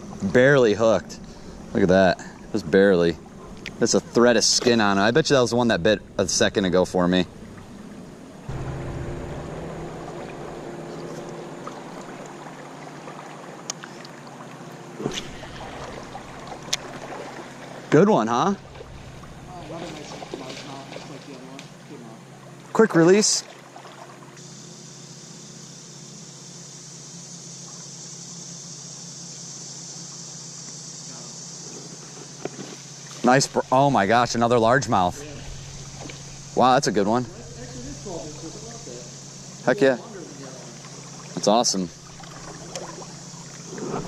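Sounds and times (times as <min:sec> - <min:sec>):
creek water running: 0:00.0 - 0:24.6, 0:30.0 - 0:44.0
low steady hum: 0:00.0 - 0:31.6, 0:32.9 - 0:44.0
insect drone: 0:00.0 - 0:44.0.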